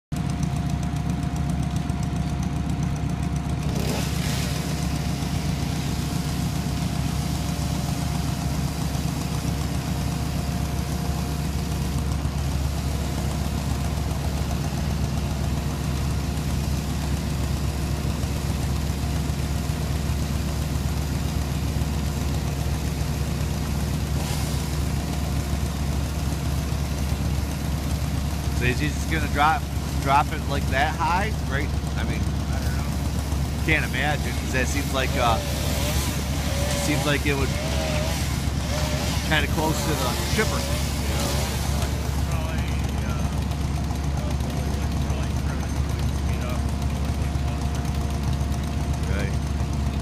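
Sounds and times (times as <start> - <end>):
engine idling hum: 0.1 - 50.0.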